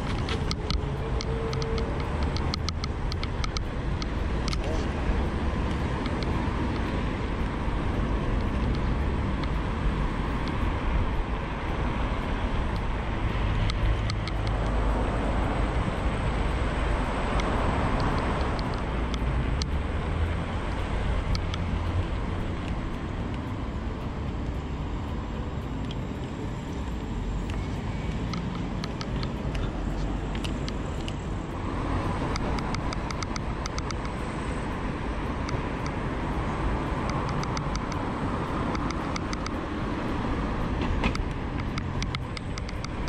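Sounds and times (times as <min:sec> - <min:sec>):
small tyres rumbling on pavement: 0:00.0 - 0:43.0.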